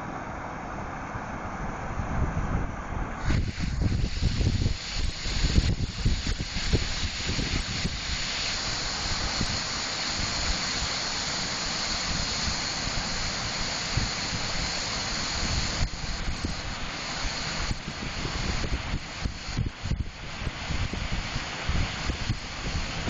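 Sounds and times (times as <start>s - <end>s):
wind buffeting microphone: 1.9s - 10.9s, 12.0s - 23.0s.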